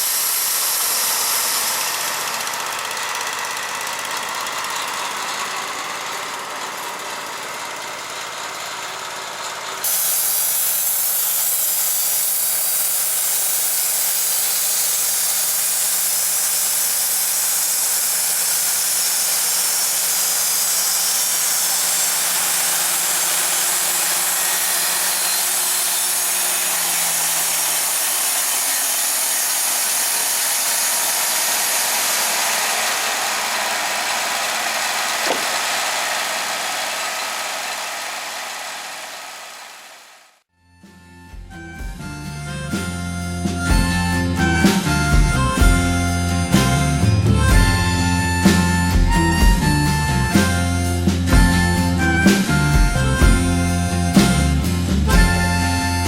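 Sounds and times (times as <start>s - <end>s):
band sawmill running: 0.0s - 56.0s.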